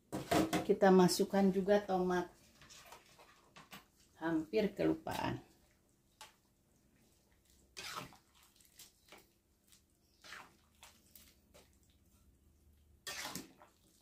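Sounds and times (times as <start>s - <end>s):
spatula scraping and stirring wok: 1.8s - 14.0s.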